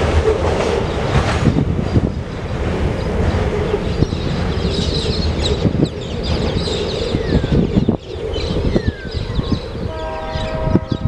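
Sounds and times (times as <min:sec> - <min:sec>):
train wagons rumbling and knocking: 0:00.0 - 0:11.0
wind on microphone: 0:00.0 - 0:11.0
birds chirping: 0:00.8 - 0:11.0.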